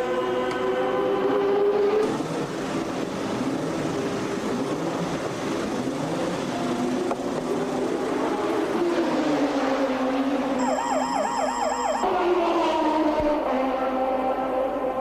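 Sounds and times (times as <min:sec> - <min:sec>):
racing engines on track: 0:00.0 - 0:15.0.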